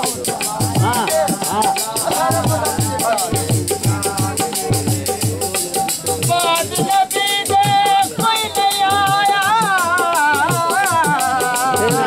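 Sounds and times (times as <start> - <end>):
low drum beats: 0.0 - 11.1
fast rattling percussion: 0.0 - 12.0.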